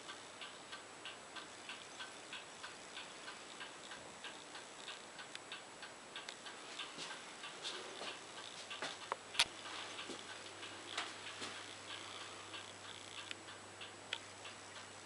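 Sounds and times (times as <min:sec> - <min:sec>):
light regular clicking: 0:00.0 - 0:15.0.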